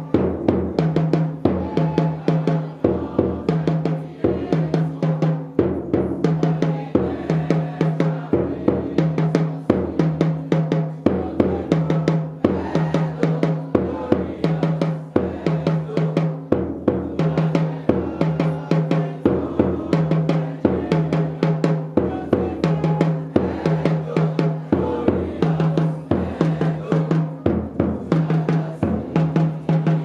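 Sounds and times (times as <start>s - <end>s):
busy drum beat: 0.0s - 30.0s.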